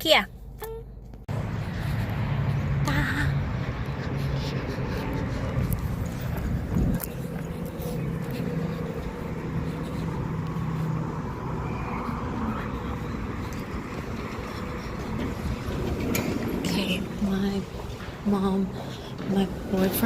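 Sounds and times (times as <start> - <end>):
engine hum: 0.0 - 20.0
low rumble of traffic: 0.0 - 20.0.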